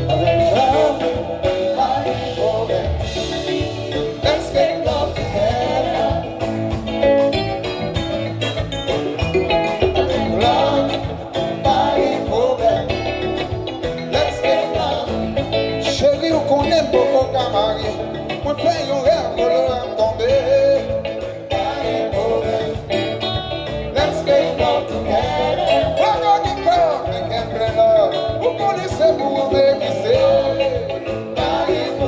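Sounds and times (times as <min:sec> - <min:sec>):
live band music: 0:00.0 - 0:32.0
steady drum beat: 0:00.0 - 0:32.0.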